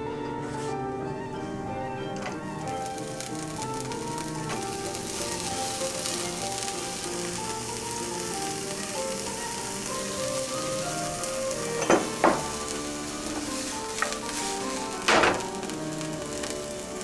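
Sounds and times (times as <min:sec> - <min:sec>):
vegetables sizzling in hot oil: 0:02.1 - 0:17.0
frying pan clatter: 0:02.2 - 0:15.8.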